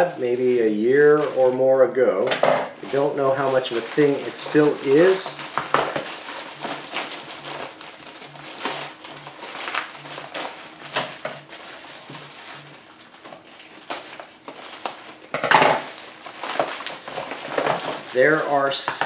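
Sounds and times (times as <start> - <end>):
plastic bag crinkling: 0.0 - 19.0
scissors cutting plastic: 3.6 - 19.0.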